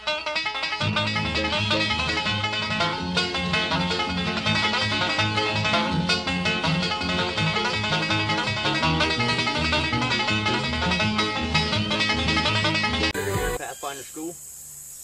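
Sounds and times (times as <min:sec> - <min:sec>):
bluegrass instrumental music: 0:00.0 - 0:14.0.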